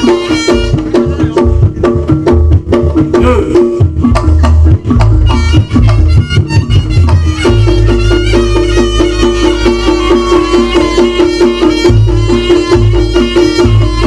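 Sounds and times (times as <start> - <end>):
drums and gongs beating: 0.0 - 14.0
gamelan music: 0.0 - 14.0.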